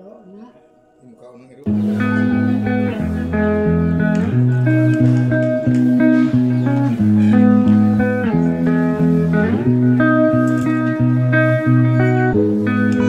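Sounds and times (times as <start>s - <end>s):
low bass notes: 1.7s - 13.0s
plucked guitar melody: 1.7s - 13.0s.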